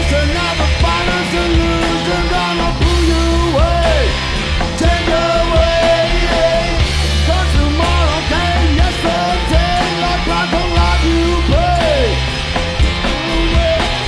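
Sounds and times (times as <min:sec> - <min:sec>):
garage rock band playing: 0:00.0 - 0:14.0.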